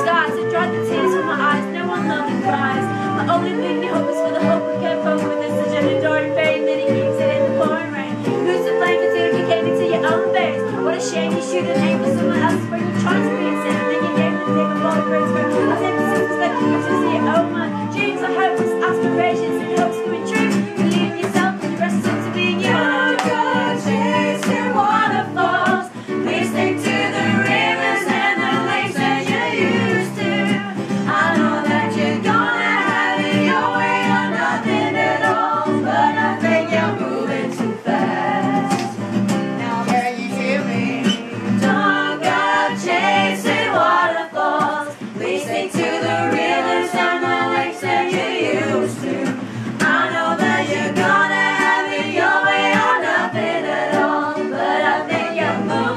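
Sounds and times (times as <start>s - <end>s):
group singing: 0.0s - 55.9s
strummed acoustic guitar: 0.0s - 55.9s.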